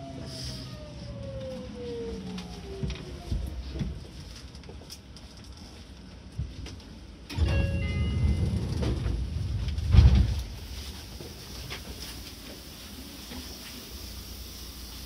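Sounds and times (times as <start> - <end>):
train interior background noise: 0.0 - 15.0
train low rumble: 0.0 - 15.0.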